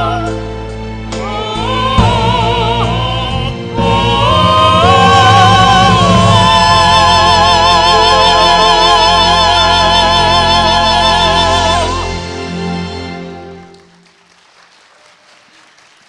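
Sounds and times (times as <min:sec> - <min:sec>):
vocal ensemble singing: 0:00.0 - 0:13.6
low accompaniment: 0:00.0 - 0:13.9.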